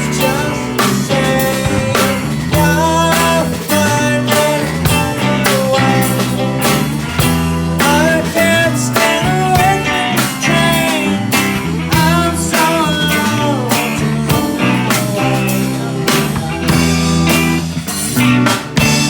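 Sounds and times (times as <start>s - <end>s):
bass and drums: 0.0s - 19.0s
electric guitar lead line: 0.0s - 19.0s.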